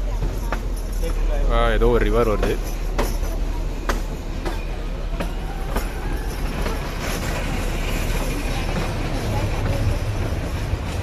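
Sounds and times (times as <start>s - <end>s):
train coach rumble: 0.0s - 11.0s
wheels clacking over rail joints: 0.0s - 11.0s.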